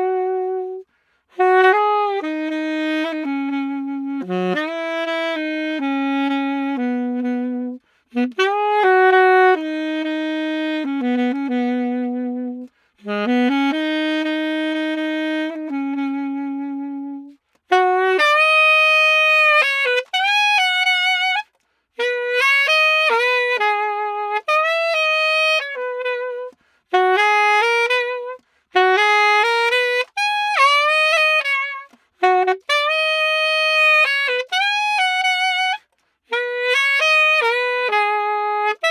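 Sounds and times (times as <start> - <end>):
saxophone melody: 0.0 - 38.9.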